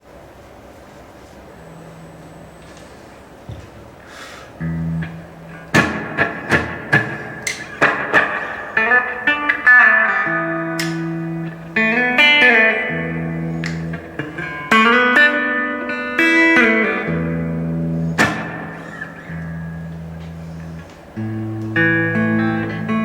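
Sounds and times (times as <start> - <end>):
electric guitar with reverb: 4.1 - 23.0.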